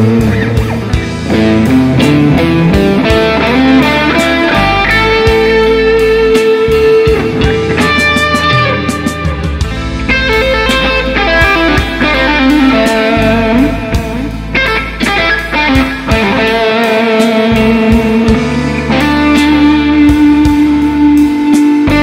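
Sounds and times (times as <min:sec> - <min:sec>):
backing track with bass and beat: 0:00.0 - 0:22.0
electric guitar blues lead: 0:00.0 - 0:22.0.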